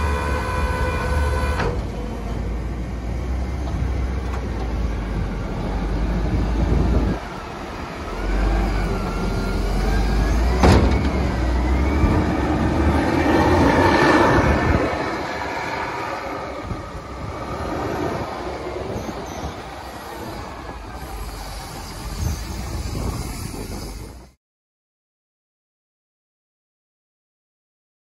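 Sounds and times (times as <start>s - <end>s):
diesel engine under load: 0.0s - 24.3s.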